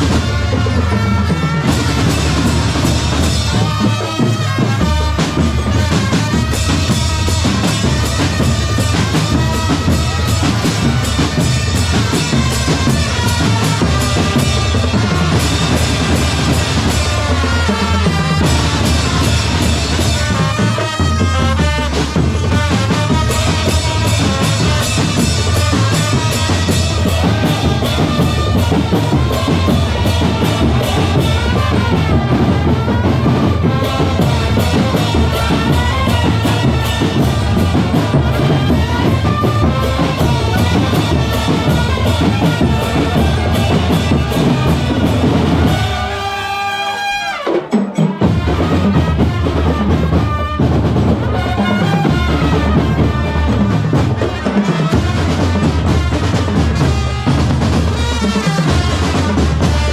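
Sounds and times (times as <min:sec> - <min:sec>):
drum corps playing a march: 0:00.0 - 0:59.9.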